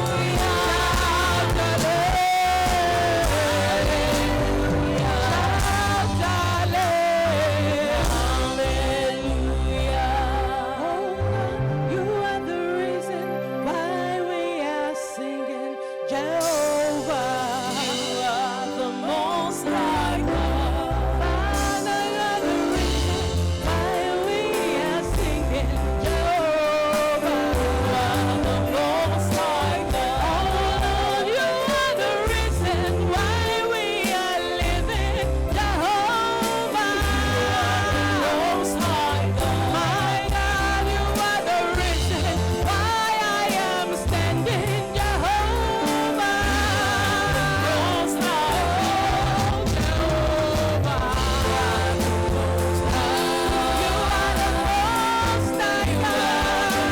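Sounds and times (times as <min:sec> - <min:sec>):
pulsing bass: 0:00.0 - 0:12.6, 0:19.7 - 0:26.7, 0:27.3 - 0:31.4, 0:32.2 - 0:33.6, 0:34.6 - 0:43.1, 0:44.0 - 0:56.9
sustained chords: 0:00.0 - 0:56.9.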